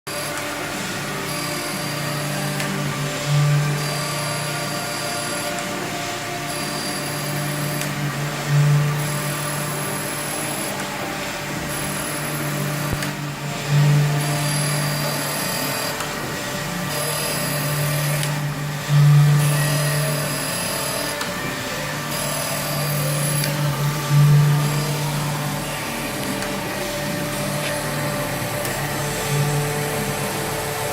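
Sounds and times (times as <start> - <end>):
high grinding ring: 0.1 - 30.9
motor hum: 0.1 - 30.9.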